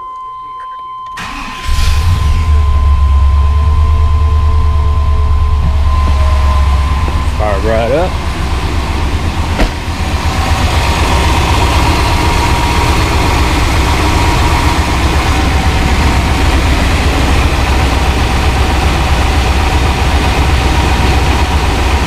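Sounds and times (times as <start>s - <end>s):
car engine idling: 1.2s - 22.0s.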